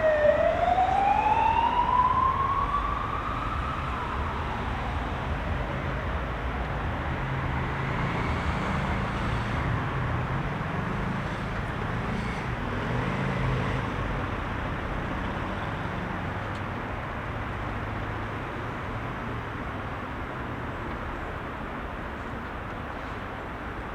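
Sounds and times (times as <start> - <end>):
heavy city traffic: 0.0 - 23.9.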